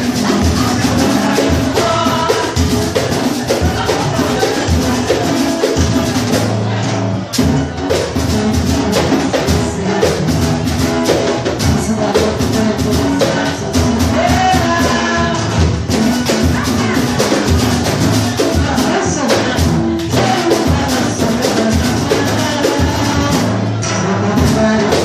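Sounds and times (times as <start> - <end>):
samba drum ensemble playing: 0.0 - 25.0.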